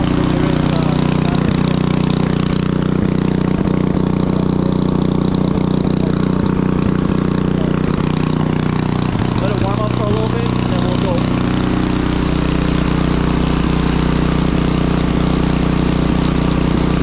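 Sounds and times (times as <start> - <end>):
snowblower engine idling: 0.0 - 17.0.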